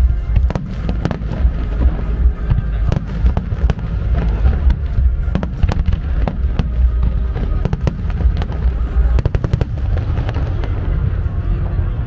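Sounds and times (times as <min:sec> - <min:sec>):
continuous low rumble: 0:00.0 - 0:12.0.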